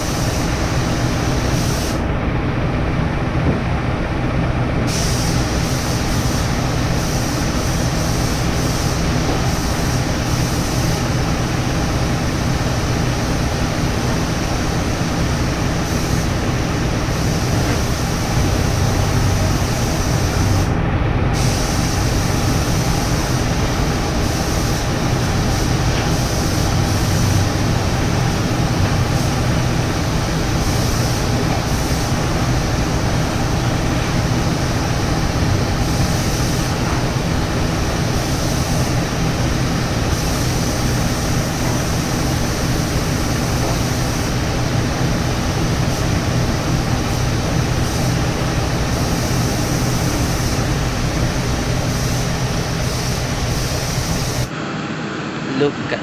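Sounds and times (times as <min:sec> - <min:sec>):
paint spray gun hissing: 0:00.0 - 0:02.0, 0:04.9 - 0:20.8, 0:21.4 - 0:54.5
low machine hum: 0:00.0 - 0:53.6.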